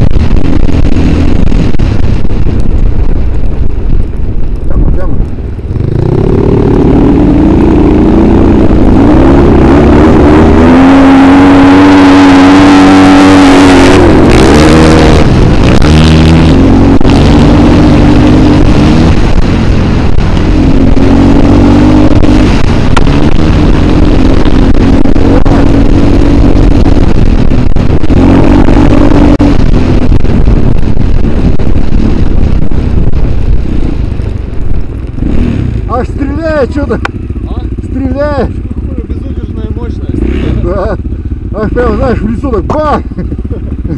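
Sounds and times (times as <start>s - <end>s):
off-road vehicle engine revving: 4.6s - 43.9s.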